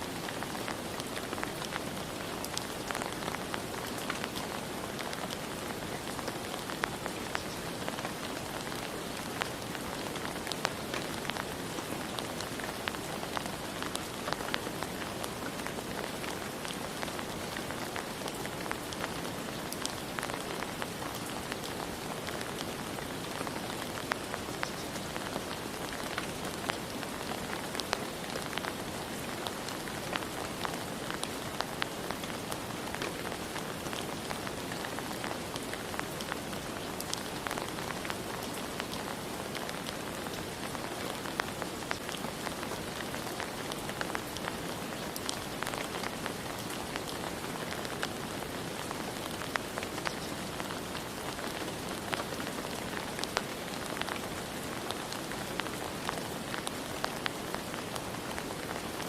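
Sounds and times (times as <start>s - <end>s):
steady rain hiss: 0.0s - 59.0s
raindrops ticking on hard surface: 0.1s - 59.0s.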